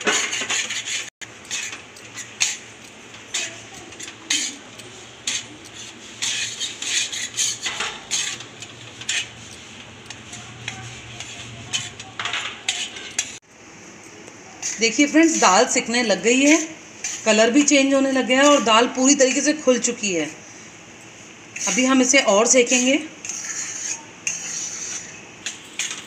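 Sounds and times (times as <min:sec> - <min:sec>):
spatula scraping metal pan: 0:00.0 - 0:13.4, 0:14.6 - 0:20.0, 0:21.5 - 0:26.0.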